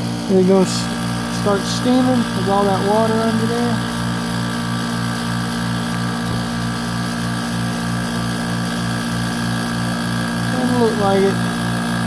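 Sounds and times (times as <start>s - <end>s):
heat pump humming and throbbing: 0.0s - 12.0s.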